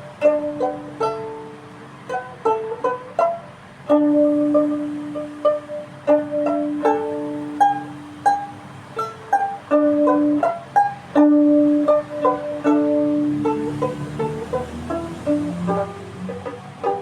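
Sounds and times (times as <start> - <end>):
low repeated string note: 0.0 - 17.0
plucked string melody: 0.0 - 17.0.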